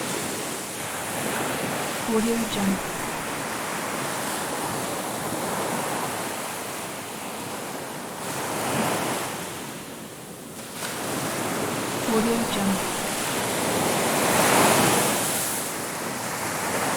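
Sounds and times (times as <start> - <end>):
ocean waves washing onto beach: 0.0 - 16.9.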